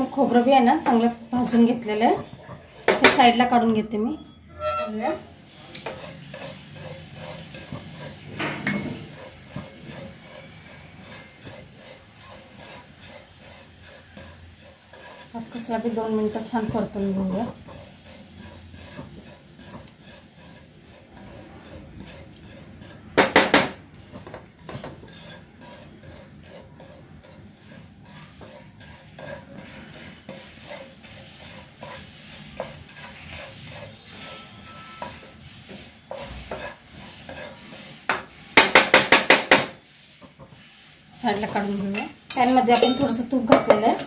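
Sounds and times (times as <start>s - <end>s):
spatula scraping seeds in pan: 0.0s - 44.0s.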